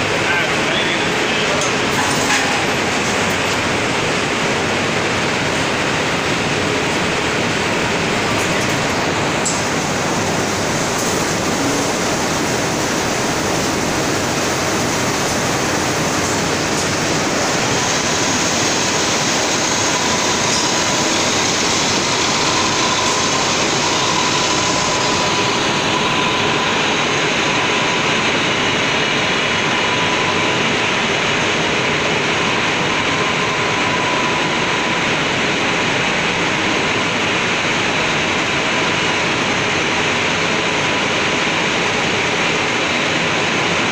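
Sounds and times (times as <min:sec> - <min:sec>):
machinery running: 0:00.0 - 0:43.9.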